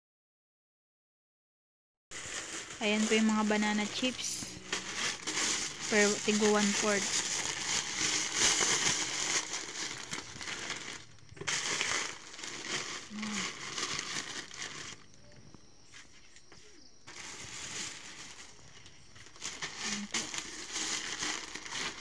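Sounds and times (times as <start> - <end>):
plastic bags crinkling: 2.1 - 15.5, 17.1 - 22.0.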